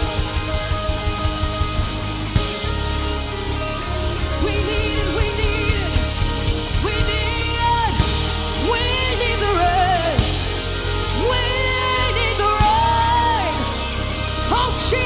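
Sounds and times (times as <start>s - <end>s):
person singing wordless vocals: 0.0s - 15.0s
worship band music: 0.0s - 15.0s.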